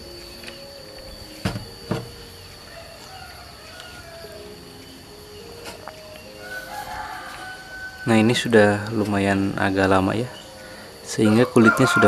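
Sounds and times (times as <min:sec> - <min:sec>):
faint wavering animal calls: 0:00.0 - 0:12.0.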